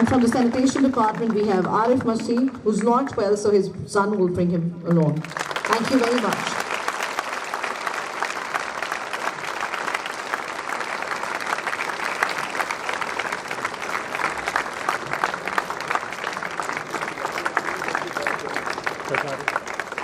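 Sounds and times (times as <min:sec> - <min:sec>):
audience applauding: 0:00.0 - 0:03.0, 0:05.2 - 0:20.0.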